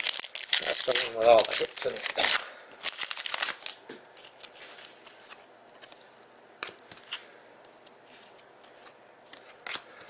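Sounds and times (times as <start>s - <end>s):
trading cards rustling and clicking: 0.0s - 10.0s.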